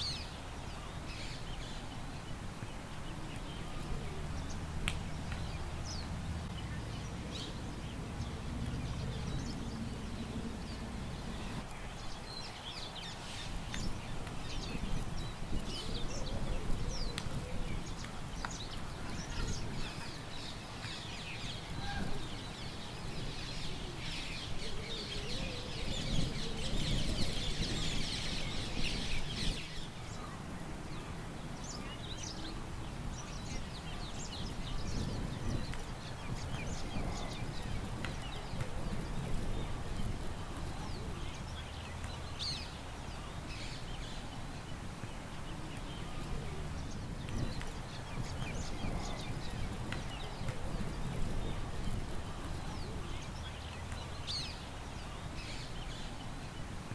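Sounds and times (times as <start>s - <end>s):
birds chirping: 0.0s - 56.8s
low rumble of wind: 0.0s - 56.9s.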